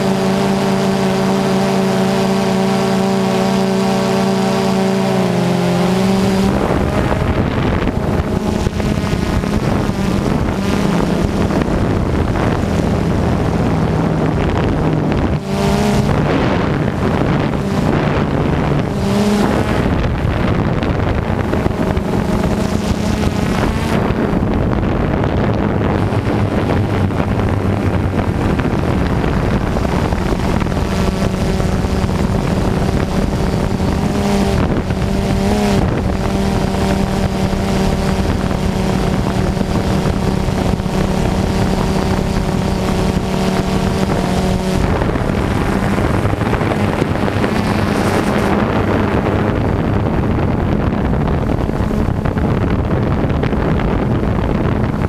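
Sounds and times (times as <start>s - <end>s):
drone propellers whirring: 0.0s - 55.0s
wind on microphone: 0.0s - 55.0s.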